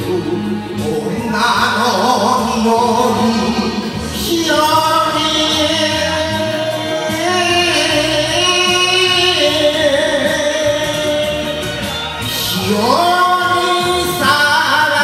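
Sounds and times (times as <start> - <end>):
karaoke backing track: 0.0 - 15.0
man singing: 0.0 - 15.0.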